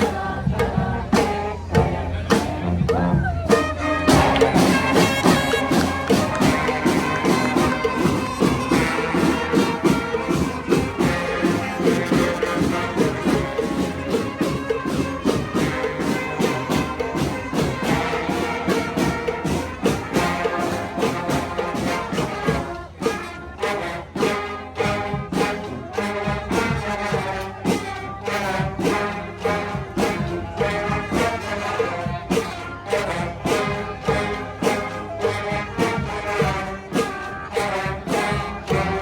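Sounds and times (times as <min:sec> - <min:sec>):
brass band playing: 0:00.0 - 0:39.0.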